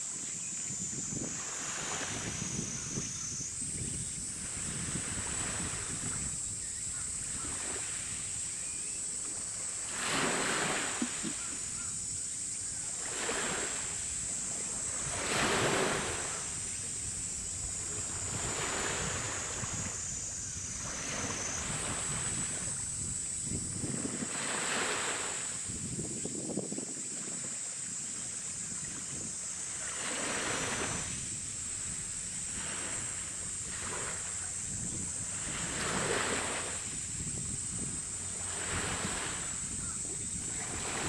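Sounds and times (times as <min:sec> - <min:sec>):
water washing in swells: 0:00.0 - 0:41.0
wind rumbling on microphone: 0:00.0 - 0:41.0.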